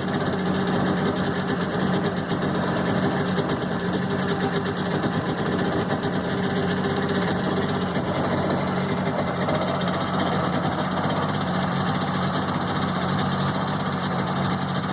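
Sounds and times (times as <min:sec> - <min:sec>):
boat engine running: 0:00.0 - 0:14.9.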